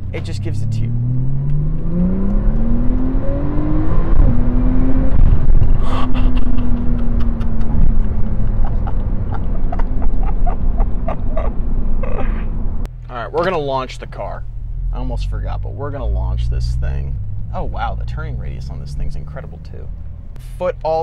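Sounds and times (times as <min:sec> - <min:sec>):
car engine accelerating: 0:00.0 - 0:20.9.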